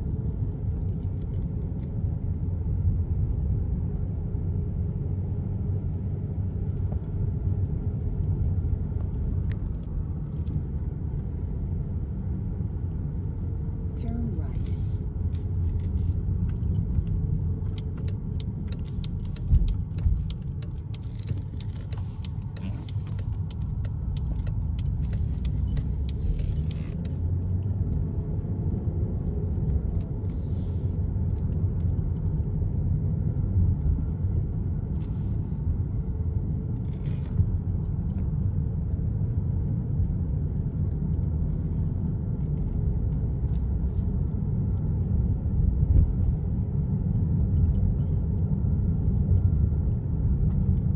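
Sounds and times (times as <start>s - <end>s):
tyre and engine rumble: 0.0s - 50.9s.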